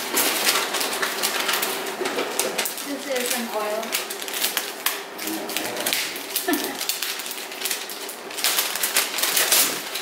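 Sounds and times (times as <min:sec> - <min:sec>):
gift wrapping crinkling: 0:00.0 - 0:10.0.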